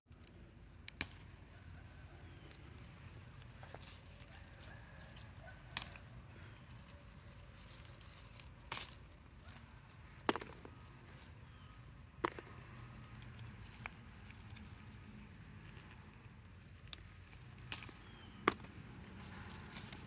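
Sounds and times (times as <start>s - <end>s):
pepper stems snapping: 0.1s - 11.3s, 12.2s - 20.0s.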